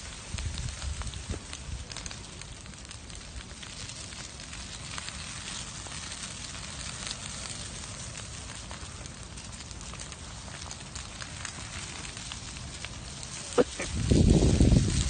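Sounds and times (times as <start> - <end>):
fire crackling and hissing: 0.0 - 15.0.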